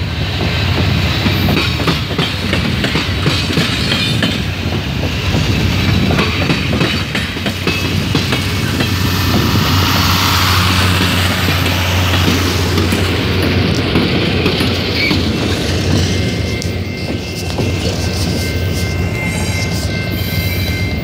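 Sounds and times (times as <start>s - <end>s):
diesel locomotive engine hum: 0.0s - 21.0s
train wheels clicking over rail joints: 0.0s - 21.0s.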